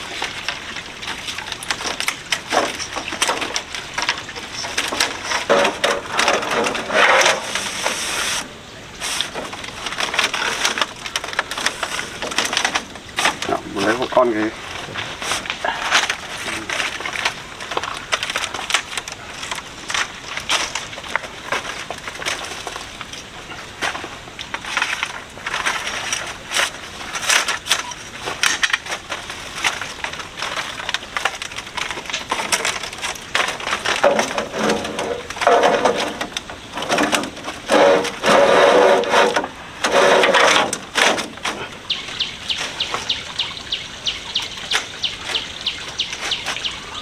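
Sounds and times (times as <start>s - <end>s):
bamboo creaking: 0.0s - 47.0s
bamboo strips cracking and scraping: 0.0s - 47.0s.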